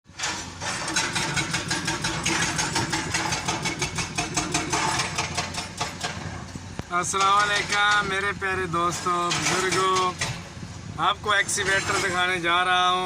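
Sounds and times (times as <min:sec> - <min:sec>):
hydraulic breaker hammering rock: 0:00.1 - 0:12.4
diesel engine hum: 0:00.1 - 0:13.0.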